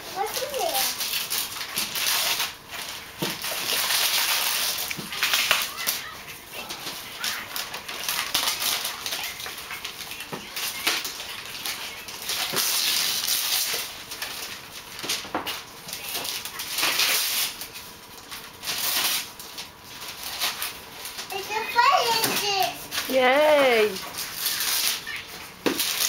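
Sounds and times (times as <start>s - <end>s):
wrapping paper tearing and rustling: 0.0s - 26.0s.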